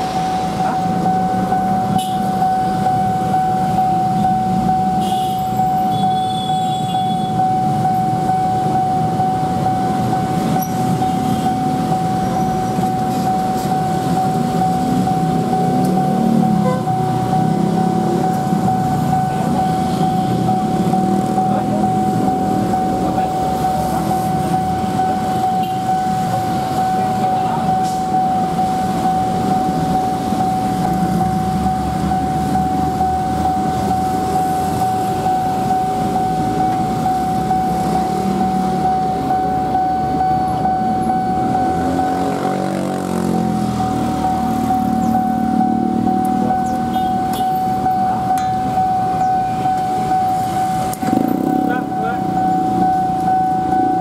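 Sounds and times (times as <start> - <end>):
level crossing alarm tone: 0.0 - 54.0
vehicles idling: 7.2 - 54.0.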